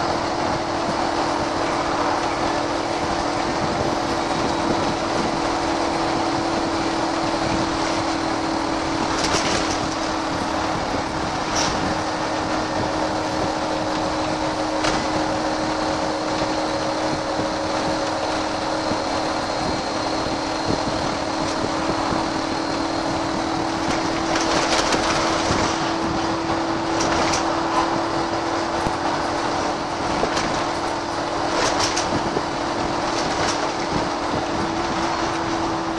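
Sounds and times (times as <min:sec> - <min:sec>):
bus engine drone: 0:00.0 - 0:35.9
rattles and clicks: 0:01.6 - 0:35.9.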